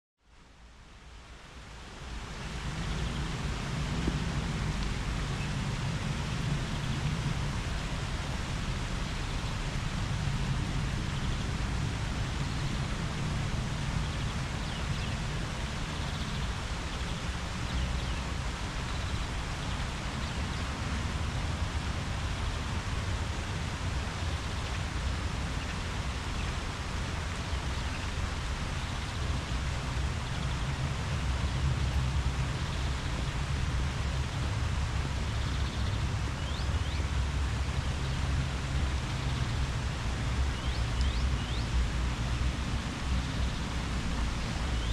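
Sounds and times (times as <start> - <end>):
leaves rustling in wind: 0.2 - 44.9.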